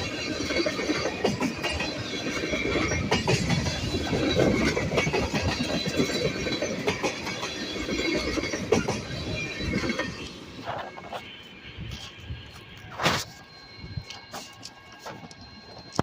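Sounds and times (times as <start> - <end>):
train rumble: 0.0 - 16.0
train wheels clicking on rail joints: 0.0 - 16.0.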